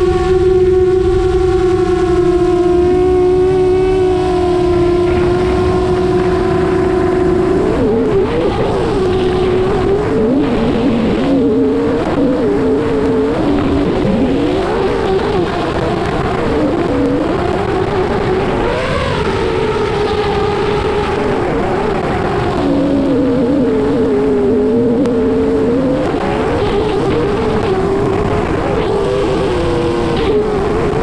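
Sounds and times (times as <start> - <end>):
drone motors whining: 0.0 - 31.0
wind rush: 0.0 - 31.0.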